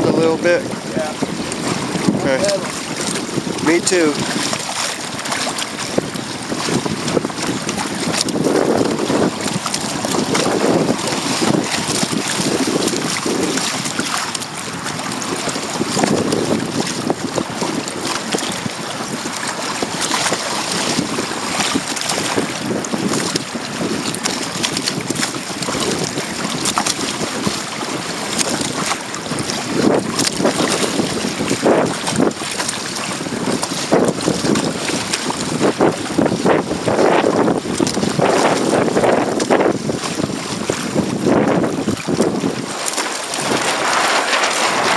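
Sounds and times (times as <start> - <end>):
water splashing along hull: 0.0 - 44.9
wind buffeting microphone: 0.0 - 44.9.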